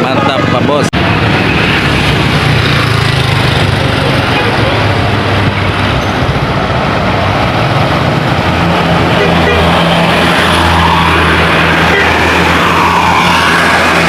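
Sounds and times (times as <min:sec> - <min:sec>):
bus engine running: 0:00.0 - 0:14.0
road and tyre noise: 0:00.0 - 0:14.0.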